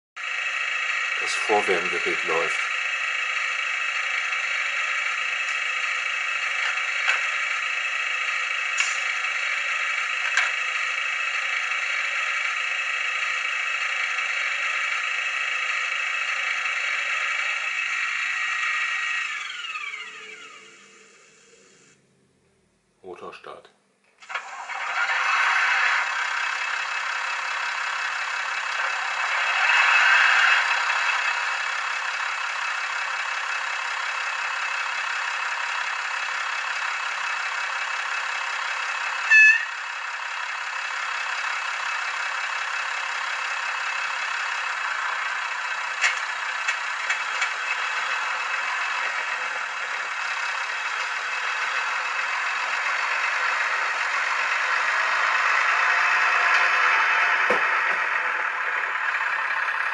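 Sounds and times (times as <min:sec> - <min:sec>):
simulated diesel engine from small speaker: 0:00.2 - 0:59.9.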